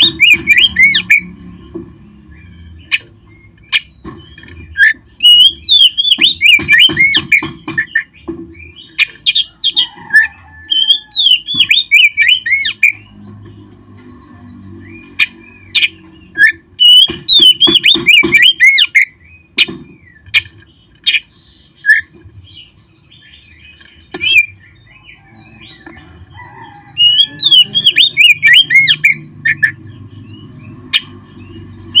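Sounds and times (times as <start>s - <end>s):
songbird singing whistled notes: 2.4s - 13.5s, 14.8s - 32.0s.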